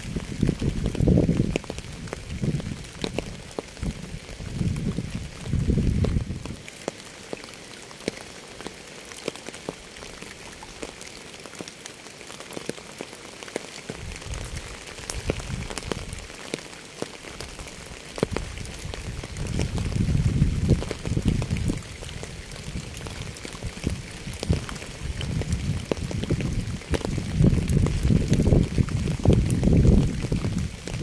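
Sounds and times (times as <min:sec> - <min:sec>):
raindrops ticking on a surface: 0:00.0 - 0:31.0
steady rain hissing: 0:00.0 - 0:31.0.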